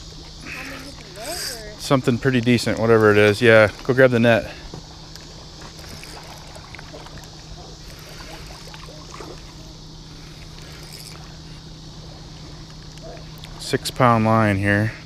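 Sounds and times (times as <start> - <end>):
constant low hum: 0.0 - 15.0
high-pitched hiss: 0.0 - 15.0.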